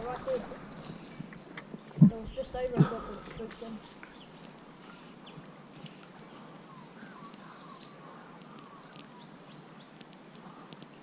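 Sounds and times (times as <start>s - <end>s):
birds calling and chirping: 0.0s - 10.1s
low steady hiss: 0.0s - 11.0s.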